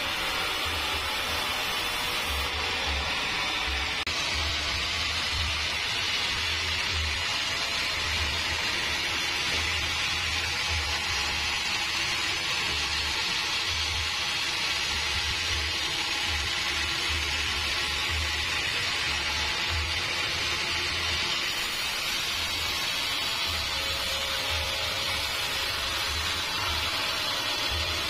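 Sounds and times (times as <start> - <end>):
band saw blade cutting log: 0.0 - 28.0.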